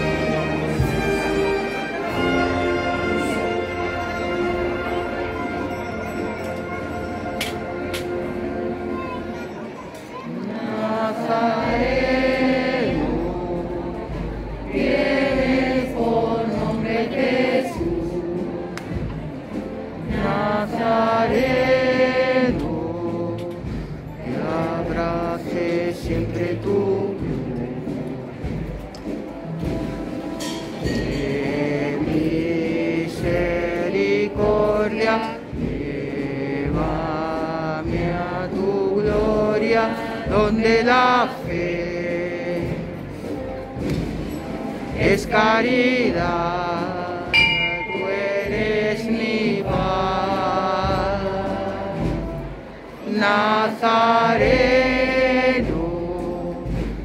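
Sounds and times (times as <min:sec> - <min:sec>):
group singing a hymn: 0:00.0 - 0:05.3, 0:10.3 - 0:28.6, 0:30.8 - 0:57.0.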